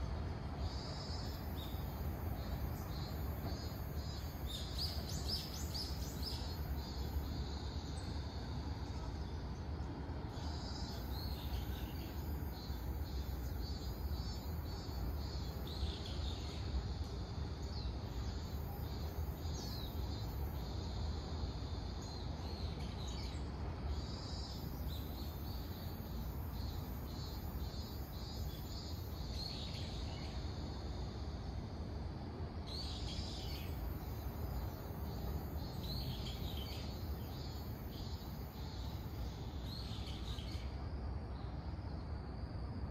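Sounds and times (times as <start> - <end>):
cicadas singing in pulsing phrases: 0.0 - 42.9
high steady insect buzz: 0.0 - 42.9.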